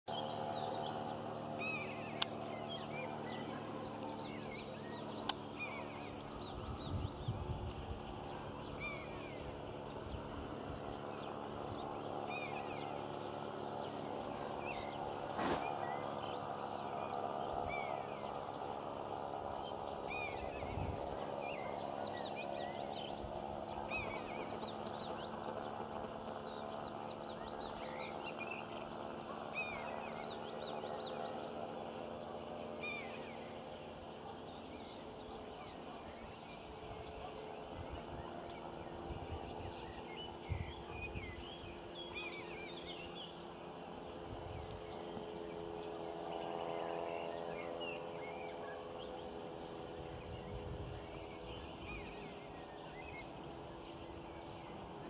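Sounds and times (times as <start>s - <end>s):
small birds chirping: 0.1s - 55.0s.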